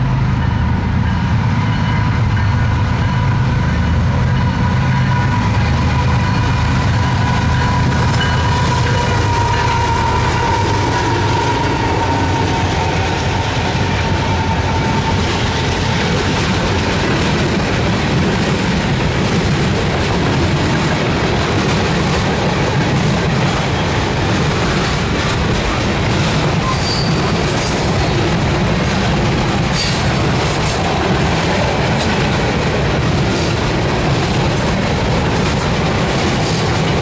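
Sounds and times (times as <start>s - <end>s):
diesel locomotives running by: 0.0s - 37.0s
train wheels clacking over rail joints: 4.4s - 37.0s.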